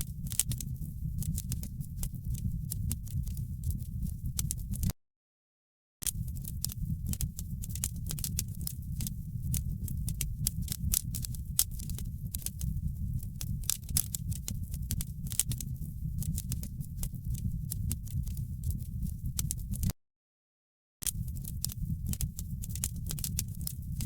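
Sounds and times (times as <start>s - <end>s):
wood fire crackling: 0.1s - 4.9s, 6.1s - 19.9s, 21.1s - 24.0s.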